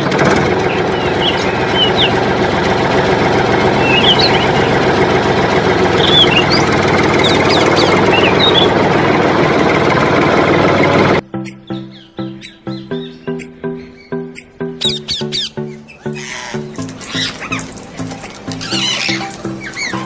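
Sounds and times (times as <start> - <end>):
birds chirping: 0.0 - 9.4, 11.2 - 20.0
tractor engine running: 0.0 - 20.0.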